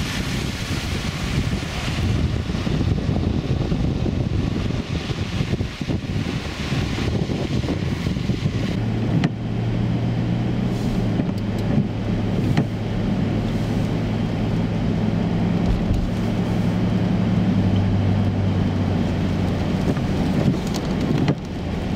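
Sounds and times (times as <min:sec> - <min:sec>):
car engine droning: 0:00.0 - 0:21.9
road noise: 0:00.0 - 0:21.9.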